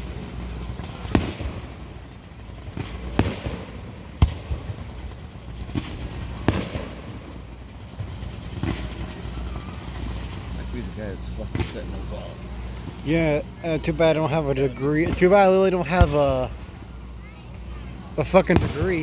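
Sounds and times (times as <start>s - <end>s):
fireworks bursting with bangs: 0.0s - 19.0s
steady low rumble: 0.0s - 19.0s.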